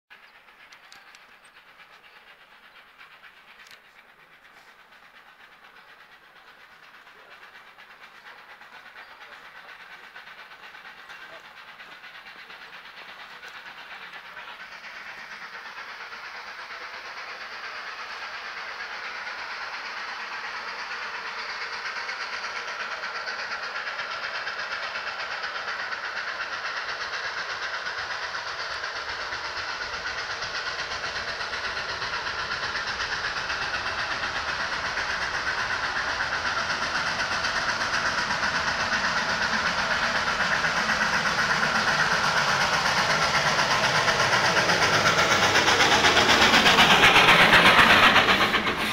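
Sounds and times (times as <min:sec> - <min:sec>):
steam locomotive running: 0:00.1 - 0:48.9.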